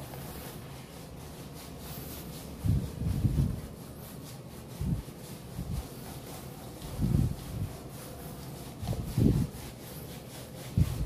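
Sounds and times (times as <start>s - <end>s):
scrub glove rubbing skin: 0.0s - 11.0s.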